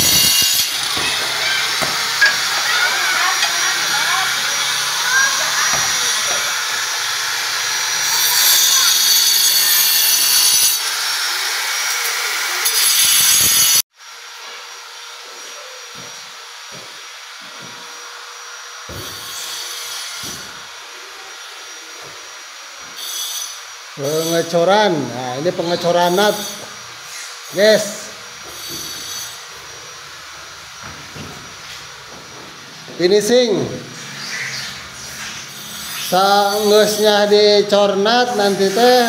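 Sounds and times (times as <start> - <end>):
angle grinder cutting tile: 0.0 - 13.8, 16.6 - 30.4, 33.1 - 39.0.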